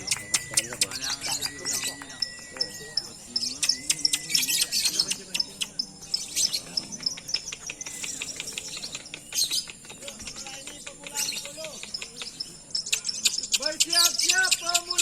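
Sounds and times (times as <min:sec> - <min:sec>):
birds chirping and chattering: 0:00.0 - 0:15.0.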